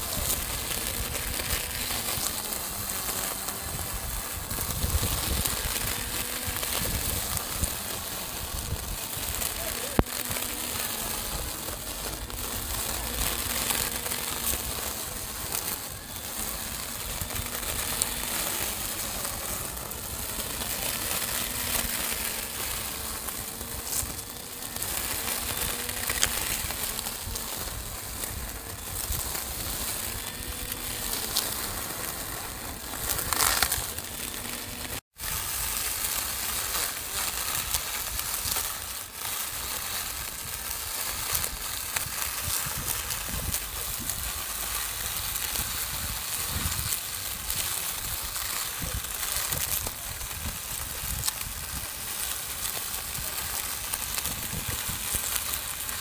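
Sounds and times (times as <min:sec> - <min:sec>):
grass and twigs crunching: 0:00.0 - 0:56.0
lawn mower cutting grass: 0:00.0 - 0:56.0.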